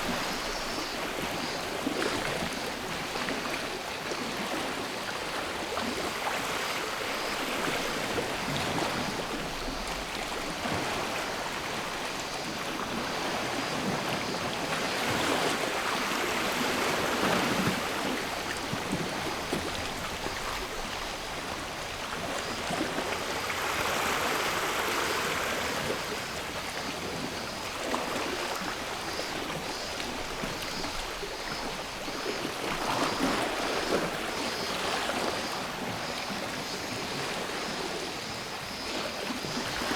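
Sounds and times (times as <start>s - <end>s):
faint cicada chorus: 0.0s - 39.9s.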